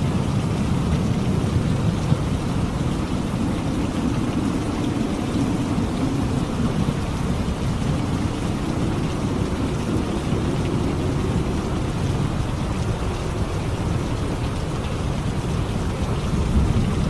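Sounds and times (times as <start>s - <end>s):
heavy rain: 0.0s - 17.0s
low rumble of thunder: 0.0s - 17.0s.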